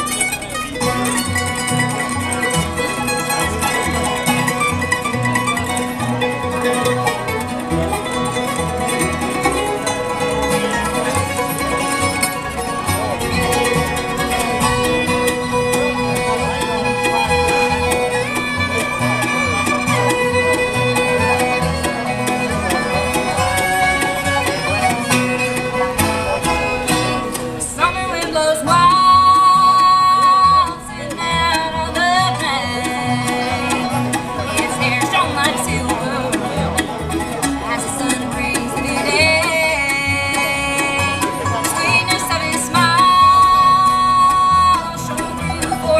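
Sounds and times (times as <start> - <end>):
banjo: 0.0 - 45.9
fiddle: 0.0 - 45.9
guitar: 0.0 - 45.9.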